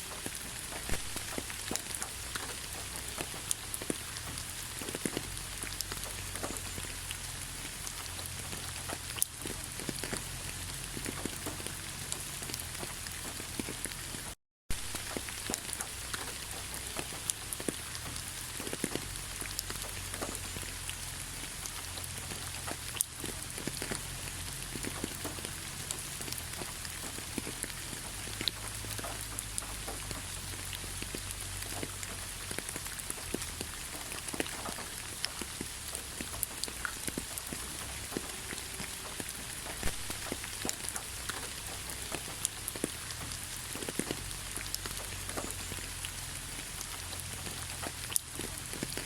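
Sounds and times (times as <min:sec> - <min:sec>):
rain drops hitting: 0:00.0 - 0:49.0.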